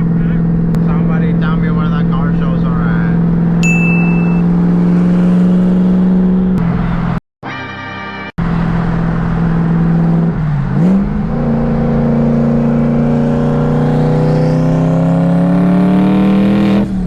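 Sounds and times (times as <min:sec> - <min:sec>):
car engine accelerating: 0:00.0 - 0:07.2, 0:08.4 - 0:17.0.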